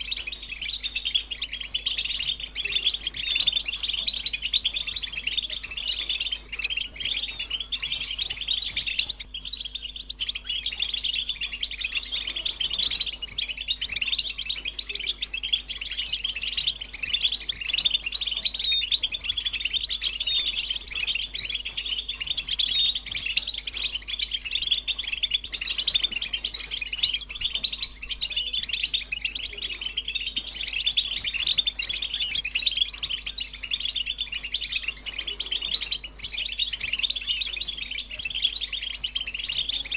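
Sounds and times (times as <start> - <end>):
birds chattering and twittering: 0.0 - 39.9.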